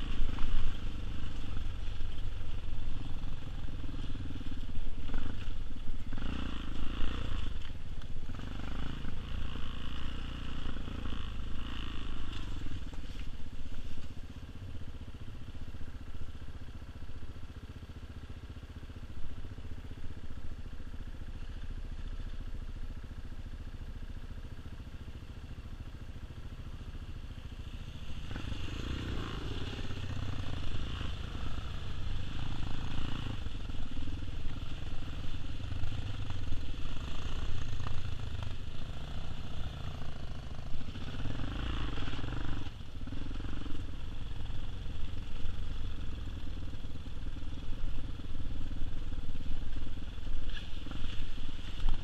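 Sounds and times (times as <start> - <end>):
dirt bike engine: 0.0 - 52.0.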